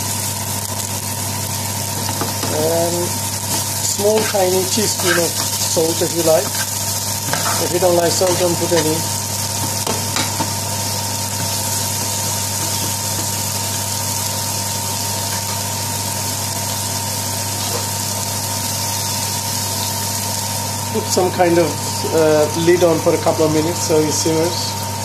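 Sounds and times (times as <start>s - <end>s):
constant low hum: 0.0s - 22.6s
onion sizzling in a frying pan: 0.0s - 25.0s.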